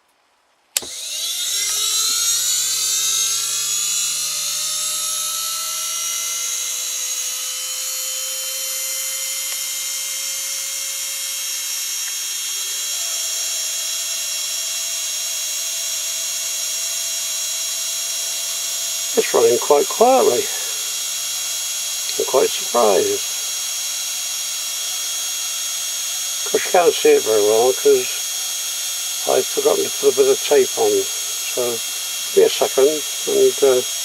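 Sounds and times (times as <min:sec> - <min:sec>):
washing machine motor whine: 0:00.8 - 0:34.0.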